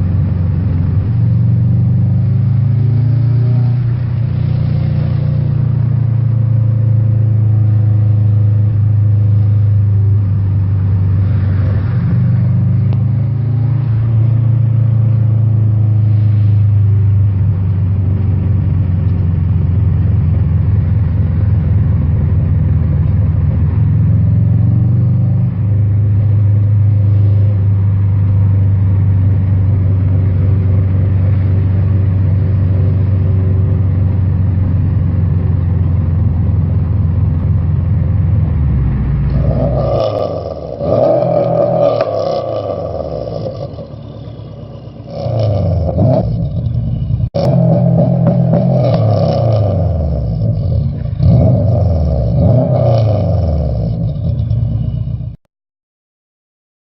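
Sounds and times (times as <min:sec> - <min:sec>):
car engine low drone: 0:00.0 - 0:55.4.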